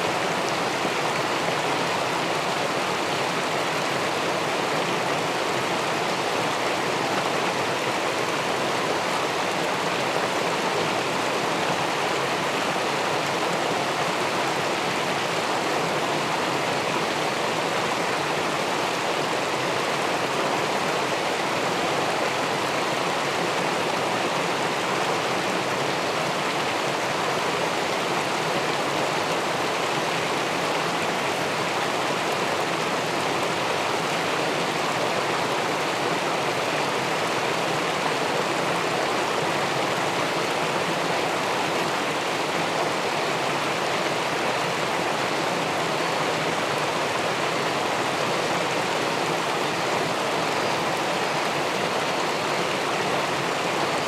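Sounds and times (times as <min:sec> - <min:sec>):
underwater rushing river water: 0:00.0 - 0:54.0.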